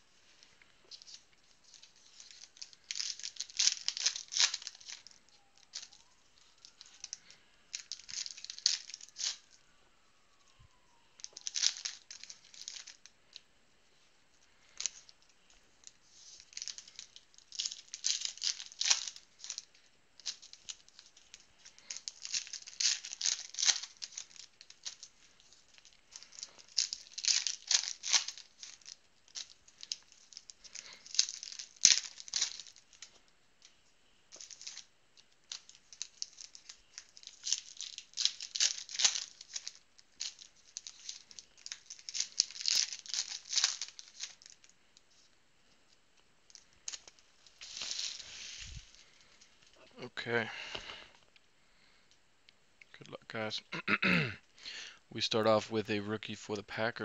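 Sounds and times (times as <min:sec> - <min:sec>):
card pack wrappers crinkling: 0:00.0 - 0:51.4.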